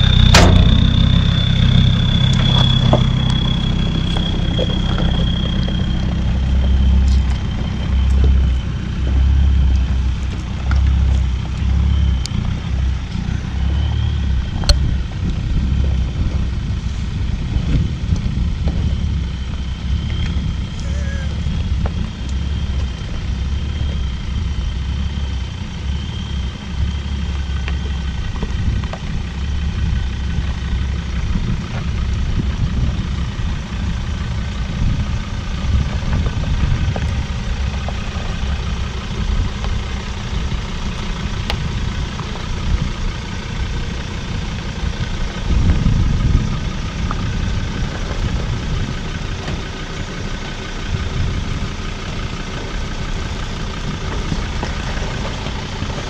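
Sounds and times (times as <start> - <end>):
vehicle engine running at low revs: 0.0 - 56.0.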